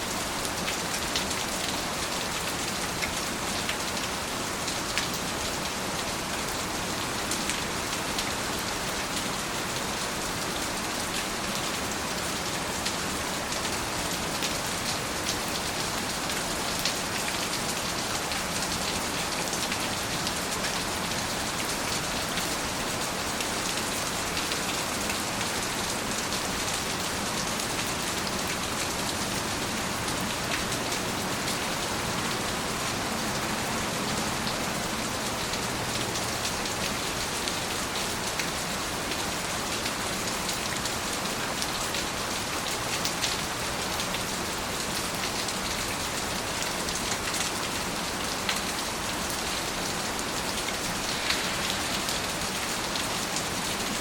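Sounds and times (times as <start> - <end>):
heavy rain pattering: 0.1 - 54.0.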